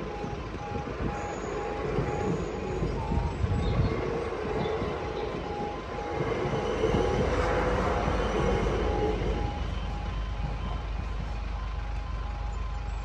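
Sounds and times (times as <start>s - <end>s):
electric train rumbling past: 0.0s - 13.0s
level crossing alarm beeping: 0.0s - 13.0s.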